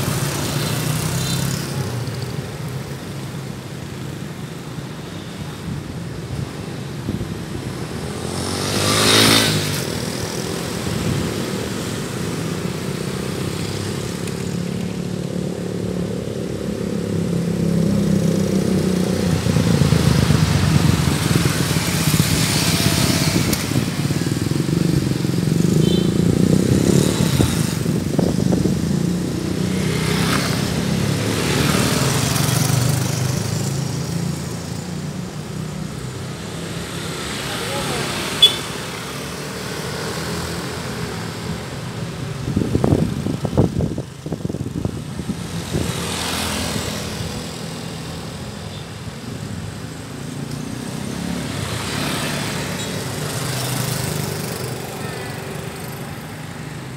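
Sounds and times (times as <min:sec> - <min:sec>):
motorcycles and cars driving past: 0:00.0 - 0:56.9
steady traffic drone: 0:00.0 - 0:56.9.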